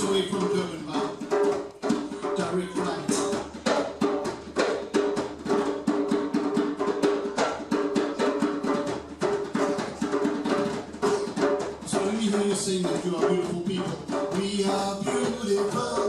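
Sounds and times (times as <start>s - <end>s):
hand percussion groove: 0.0s - 16.0s.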